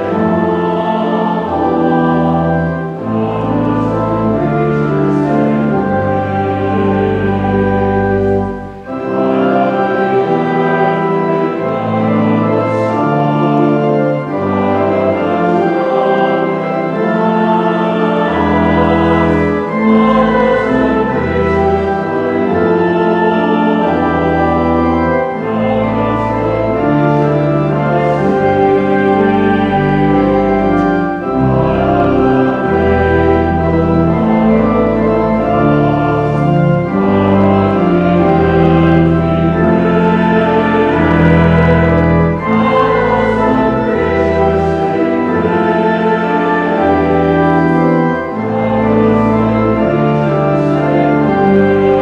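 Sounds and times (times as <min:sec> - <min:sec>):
church organ playing a hymn: 0:00.0 - 0:52.0.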